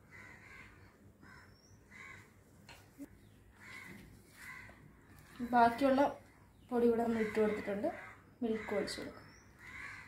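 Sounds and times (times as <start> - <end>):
faint bird calls: 0.0 - 2.4, 3.0 - 5.5, 6.2 - 10.0.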